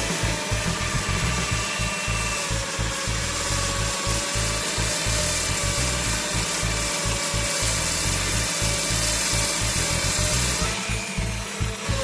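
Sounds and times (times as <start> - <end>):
drill press boring into wood: 0.0 - 12.0.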